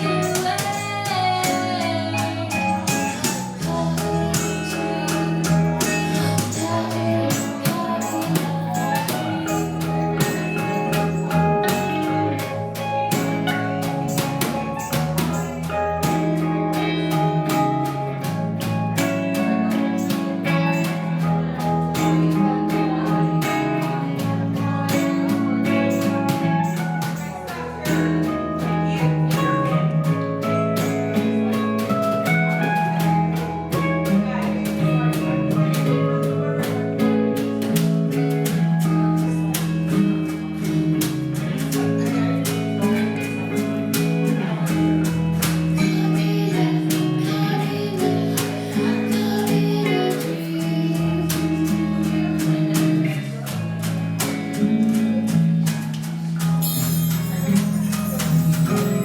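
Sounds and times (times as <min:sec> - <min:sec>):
plucked guitar: 0:00.0 - 0:59.0
slow jazz band playing: 0:00.0 - 0:59.0.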